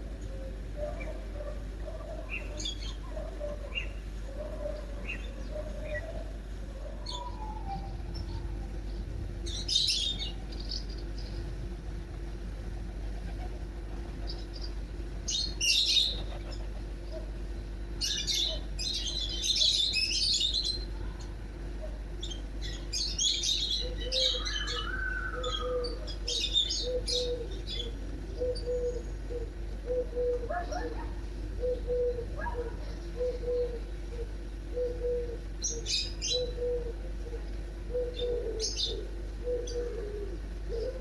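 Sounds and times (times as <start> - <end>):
low repeated bird notes: 0.0 - 41.0
small birds chirping and twittering: 0.0 - 41.0
steady low hum: 0.0 - 41.0.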